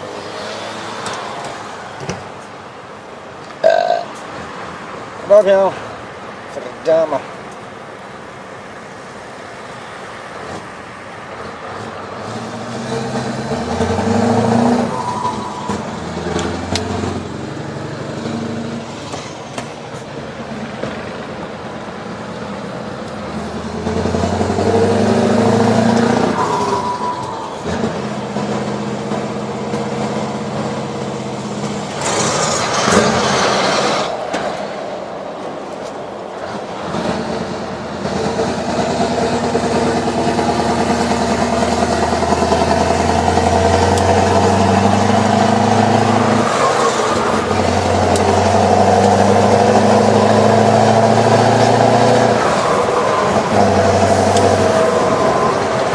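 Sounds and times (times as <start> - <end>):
diesel truck engine running: 10.2 - 55.9.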